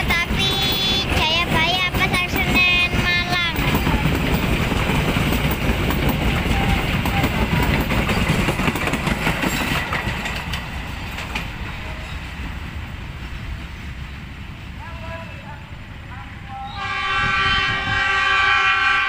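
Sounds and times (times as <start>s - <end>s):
train wheels clacking on track: 0.0s - 15.4s.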